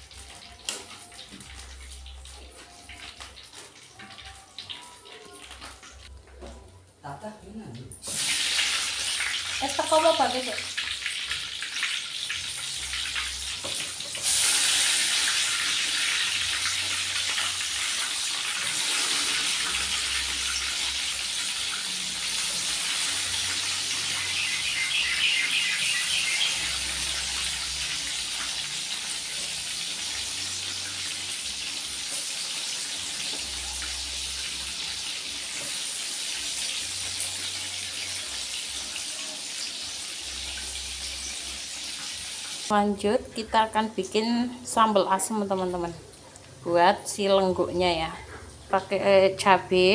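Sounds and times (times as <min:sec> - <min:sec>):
food sizzling in hot oil: 0:00.0 - 0:06.1, 0:08.0 - 0:46.0.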